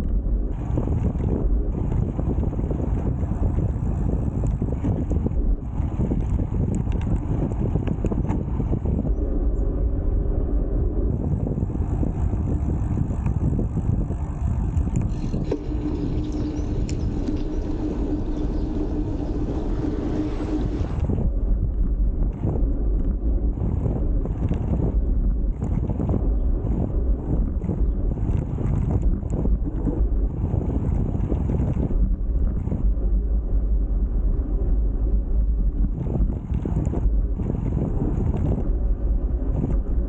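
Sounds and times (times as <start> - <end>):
steady hum: 0.0 - 40.0
wind buffeting microphone: 0.0 - 40.0.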